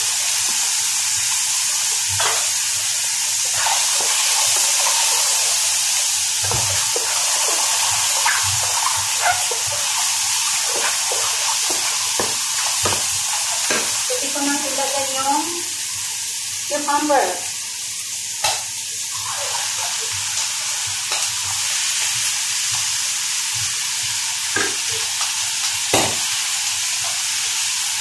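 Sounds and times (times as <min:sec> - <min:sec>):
mushrooms sizzling in hot oil: 0:00.0 - 0:28.0.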